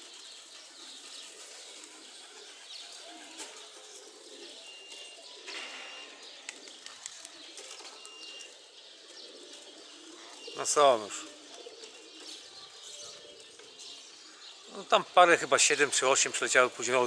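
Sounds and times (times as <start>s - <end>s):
pigeons cooing softly: 0.0s - 17.0s
small birds chirping and whistling: 0.0s - 17.0s.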